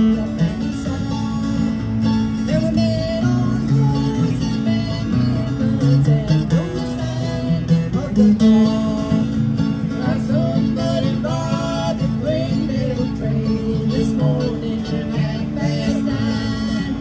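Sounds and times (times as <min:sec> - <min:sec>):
acoustic guitar: 0:00.0 - 0:17.0
live country band: 0:00.0 - 0:17.0.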